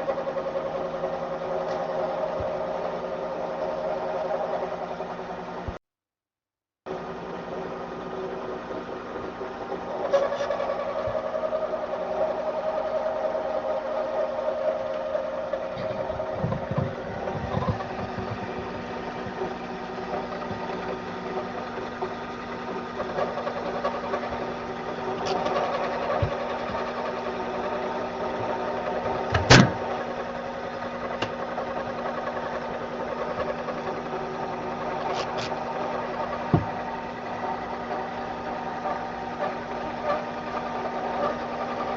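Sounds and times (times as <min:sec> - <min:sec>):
lathe motor hum: 0:00.0 - 0:05.8, 0:06.9 - 0:41.9.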